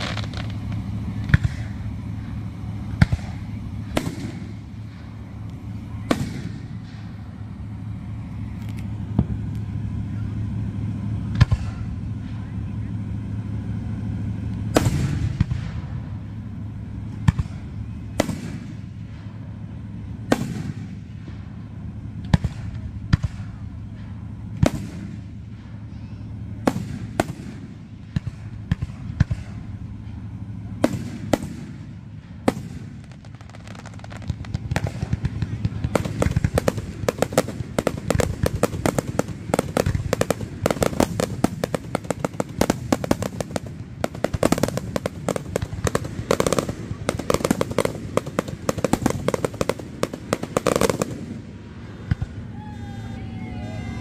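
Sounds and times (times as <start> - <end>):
firework shells booming: 0.0 - 12.4, 13.2 - 19.6, 20.2 - 52.5
rapid firework bangs and crackling: 0.0 - 52.6.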